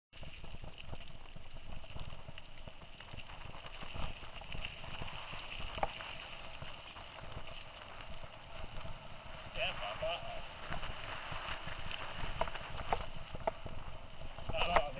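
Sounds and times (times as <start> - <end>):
mountain bike rattling: 0.2 - 14.9.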